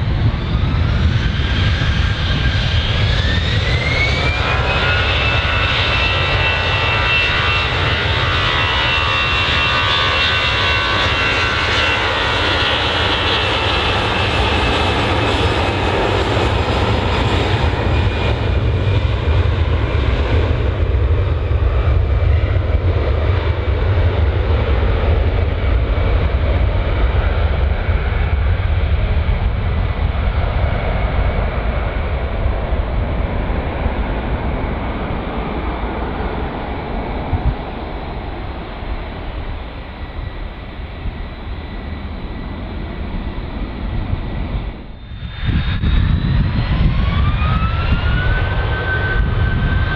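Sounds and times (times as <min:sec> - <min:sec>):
jet engine whine: 0:00.0 - 0:49.9
jet engines rumbling: 0:00.0 - 0:49.9.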